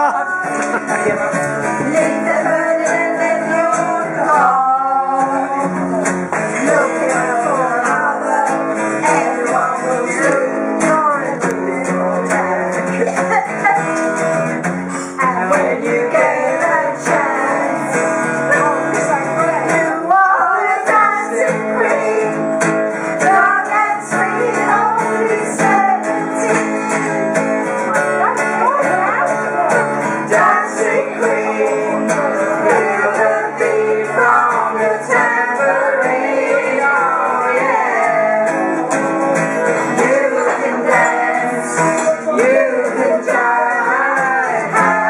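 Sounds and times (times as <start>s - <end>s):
voices singing along: 0.0s - 13.9s, 15.1s - 45.0s
acoustic guitar strumming chords: 0.0s - 45.0s.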